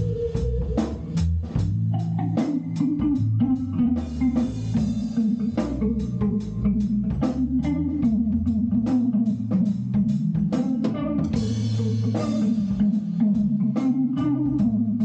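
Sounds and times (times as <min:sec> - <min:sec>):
bass guitar: 0:00.0 - 0:15.0
drum kit steady beat: 0:00.0 - 0:15.0
guitar: 0:00.0 - 0:15.0.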